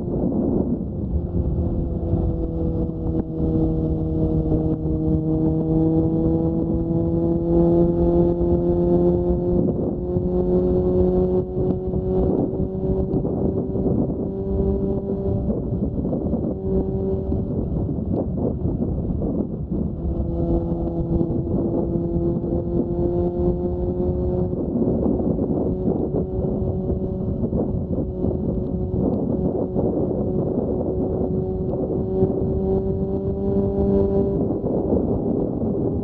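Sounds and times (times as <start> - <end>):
motorcycle engine running: 0.0 - 36.0
wind rushing at microphone: 0.0 - 36.0.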